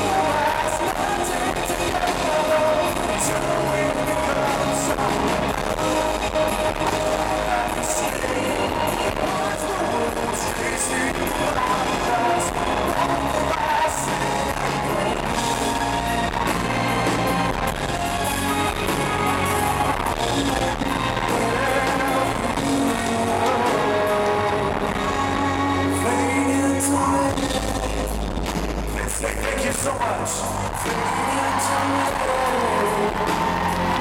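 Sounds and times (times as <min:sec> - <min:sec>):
drums: 0:00.0 - 0:34.0
man singing: 0:00.0 - 0:34.0.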